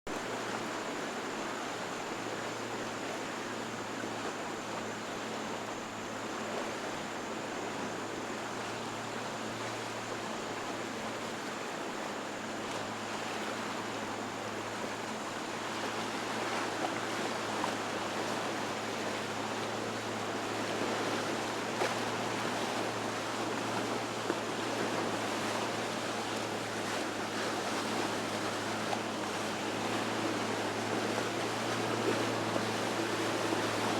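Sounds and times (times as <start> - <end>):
boat engines droning: 0.1 - 33.9
water rushing and churning: 0.1 - 33.9.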